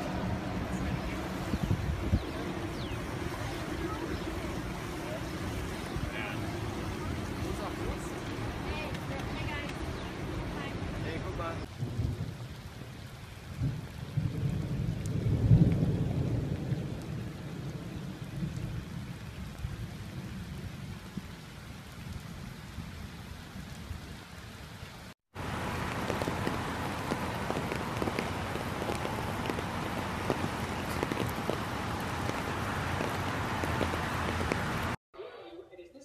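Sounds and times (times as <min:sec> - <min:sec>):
rain falling on flooded street: 0:00.0 - 0:35.0
rain on standing water: 0:00.0 - 0:35.0.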